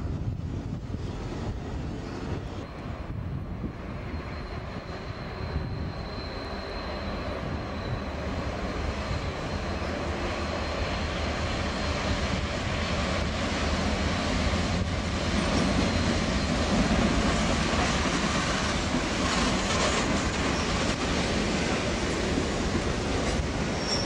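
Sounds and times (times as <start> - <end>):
diesel locomotive rumbling: 0.0 - 24.0.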